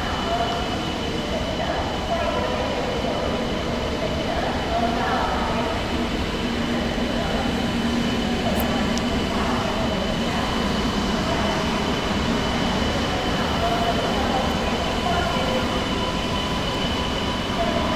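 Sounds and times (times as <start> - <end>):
train wheels rumbling on rail: 0.0 - 17.9.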